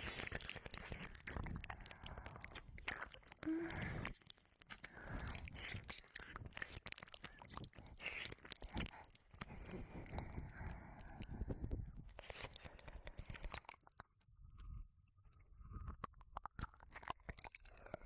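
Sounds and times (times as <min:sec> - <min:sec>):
wet tongue licks and smacks: 0:00.0 - 0:14.3, 0:15.6 - 0:18.0.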